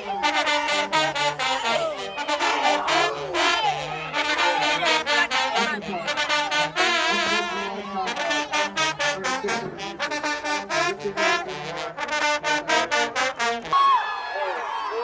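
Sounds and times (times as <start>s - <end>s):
marching band brass playing: 0.0s - 13.8s.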